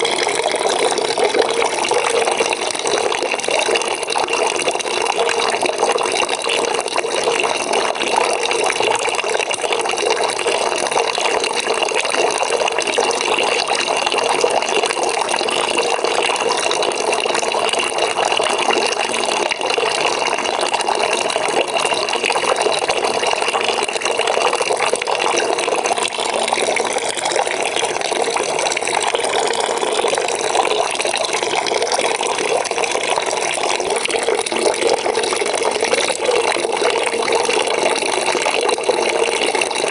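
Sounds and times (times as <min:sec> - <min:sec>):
tap water running into bucket: 0:00.0 - 0:39.9.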